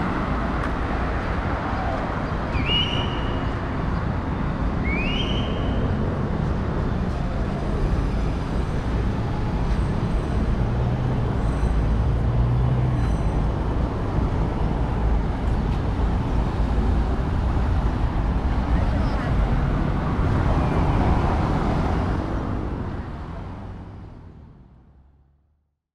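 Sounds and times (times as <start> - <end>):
traffic rumble: 0.0 - 25.4.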